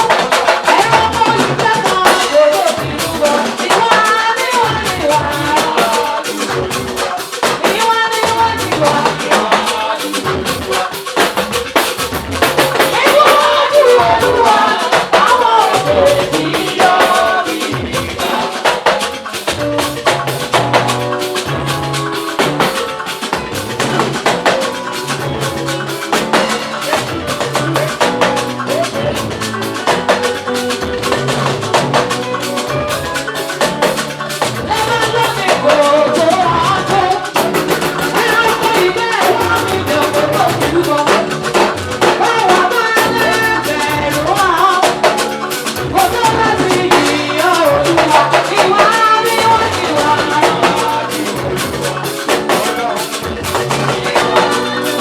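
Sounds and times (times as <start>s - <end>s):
drum kit beat: 0.0s - 55.0s
gospel band playing: 0.0s - 55.0s
wavering melody line: 0.0s - 55.0s.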